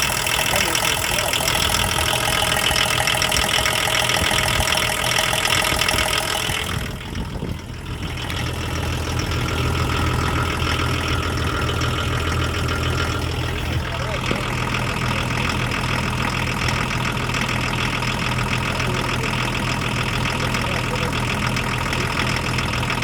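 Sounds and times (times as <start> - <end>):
diesel engine knocking: 0.0 - 23.0.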